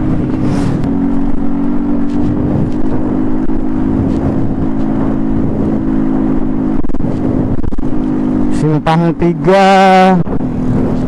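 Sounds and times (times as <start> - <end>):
motorcycle engine cruising: 0.0 - 11.0
wind rumble on microphone: 0.0 - 11.0.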